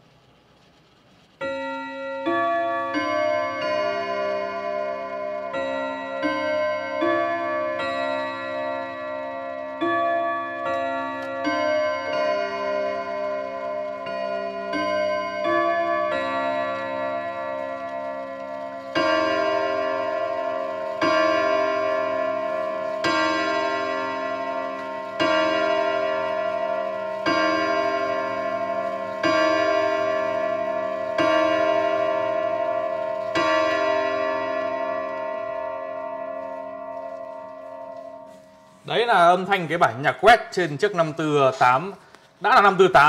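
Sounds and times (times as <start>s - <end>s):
clock gong strikes: 1.4s - 39.4s
clock chime tune: 1.4s - 43.0s.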